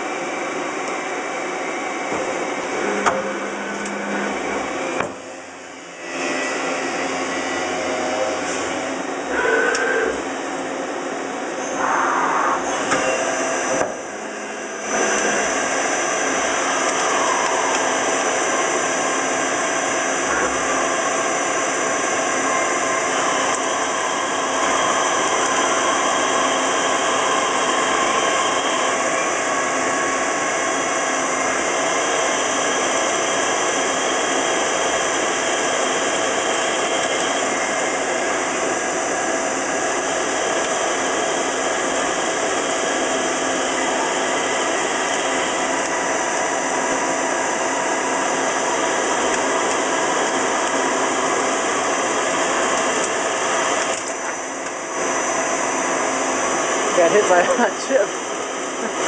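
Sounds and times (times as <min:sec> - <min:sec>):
lathe machine whine: 0:00.0 - 0:59.0.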